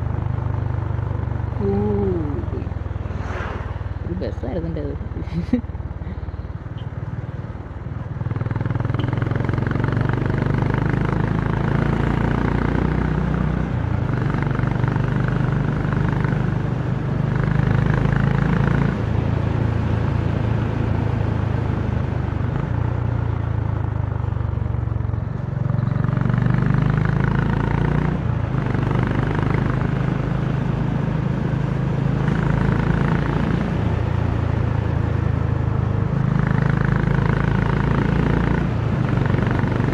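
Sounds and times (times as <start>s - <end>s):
motorcycle engine running: 0.0s - 3.1s, 3.7s - 39.9s.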